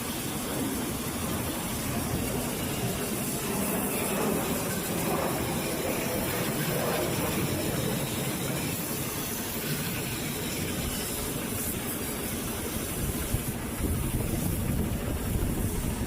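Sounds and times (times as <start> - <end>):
rushing hiss: 0.0 - 16.0.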